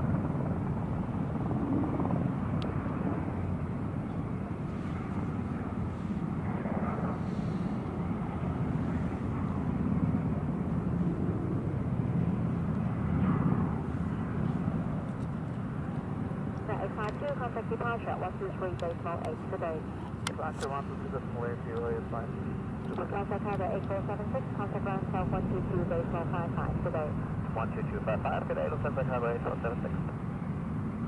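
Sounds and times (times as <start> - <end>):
distant jet engines rumbling: 0.0 - 31.0.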